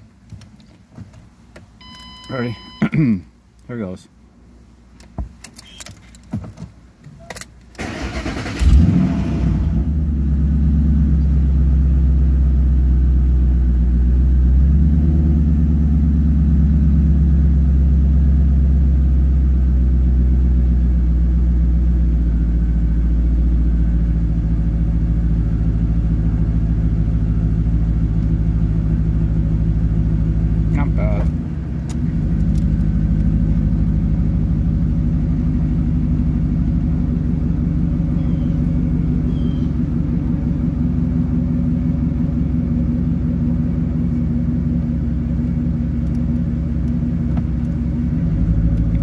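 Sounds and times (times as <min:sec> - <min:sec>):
car engine revving and idling: 0:07.8 - 0:49.0.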